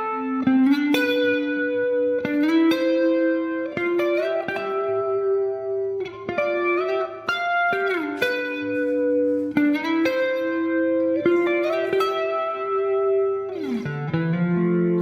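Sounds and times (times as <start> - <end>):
clean electric guitar: 0.0 - 15.0.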